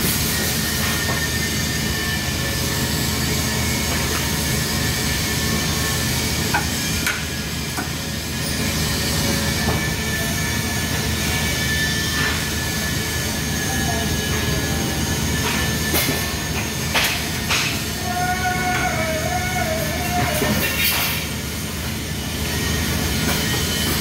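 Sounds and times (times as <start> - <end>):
welding arc buzzing hiss: 0.0 - 24.0.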